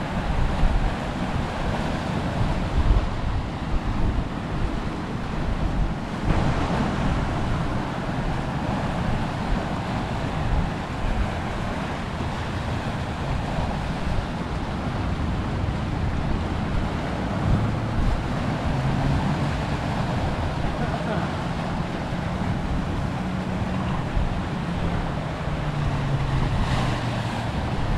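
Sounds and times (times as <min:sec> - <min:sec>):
wind buffeting microphone: 0:00.0 - 0:27.9
surf breaking over rocks: 0:00.1 - 0:27.9.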